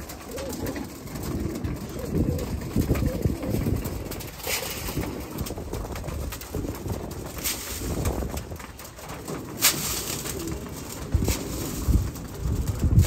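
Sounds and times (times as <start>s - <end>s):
pigeons cooing: 0.0s - 13.0s
rustle: 0.0s - 13.0s.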